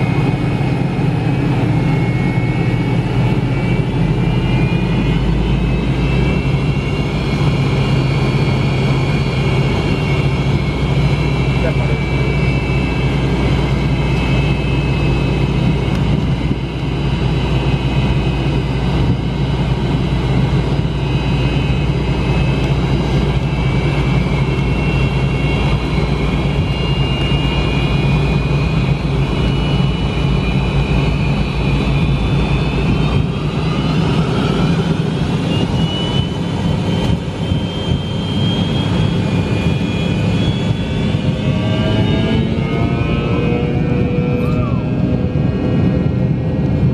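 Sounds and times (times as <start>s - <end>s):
jet engines rumbling and whining: 0.0s - 46.9s.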